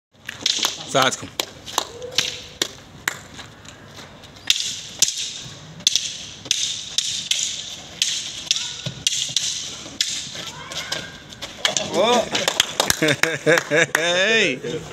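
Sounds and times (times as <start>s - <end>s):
wooden sticks clacking: 0.2s - 13.1s.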